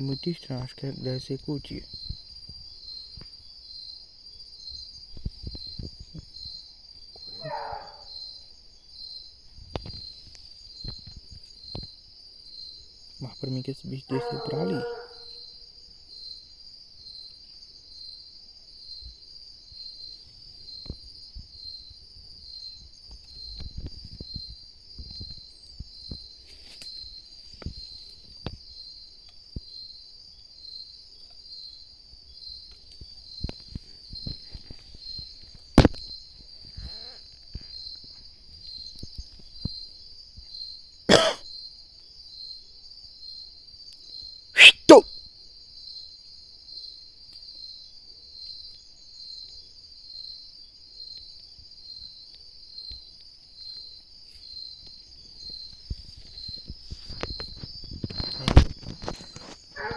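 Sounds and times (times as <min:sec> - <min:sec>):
faint ticks and rustles: 0:00.0 - 0:16.3, 0:19.0 - 0:42.4, 0:45.7 - 0:59.9
night insects trilling: 0:00.0 - 0:59.9.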